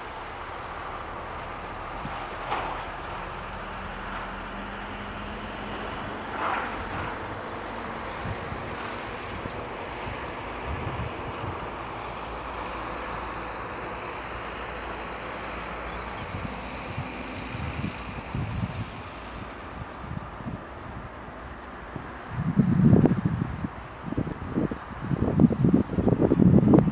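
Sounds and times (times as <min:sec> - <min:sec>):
distant locomotives droning: 0:00.0 - 0:26.9.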